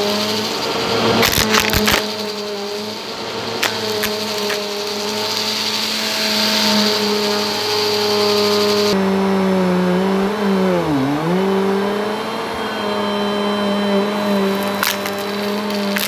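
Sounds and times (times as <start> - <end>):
vacuum cleaner motor hum: 0.0 - 16.0
vacuum airy rush: 2.0 - 16.0.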